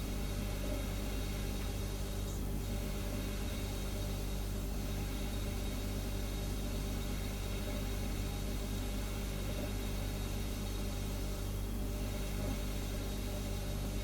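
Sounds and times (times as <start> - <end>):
refrigerator humming: 0.0 - 14.0.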